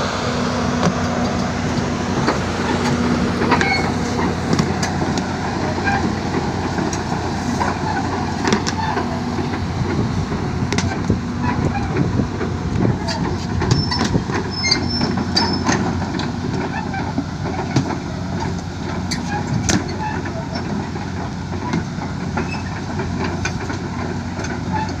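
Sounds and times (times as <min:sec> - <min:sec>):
diesel engine running: 0:00.0 - 0:25.0
metal clanks and rattles: 0:00.8 - 0:25.0.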